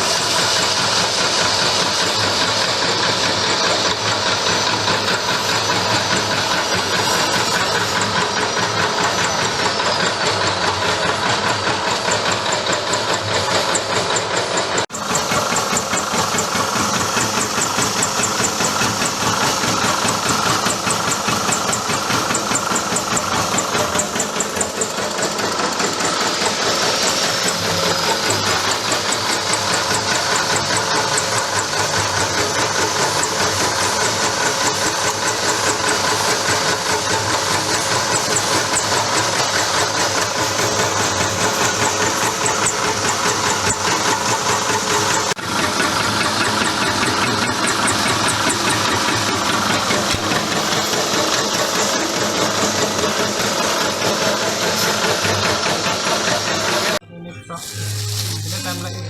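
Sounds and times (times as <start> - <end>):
nut chopper motor droning: 0.0 - 57.0.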